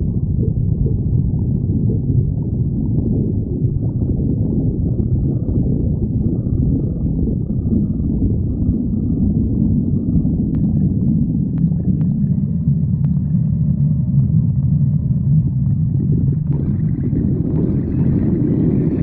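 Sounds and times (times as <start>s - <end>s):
stomach growling: 0.0s - 19.0s.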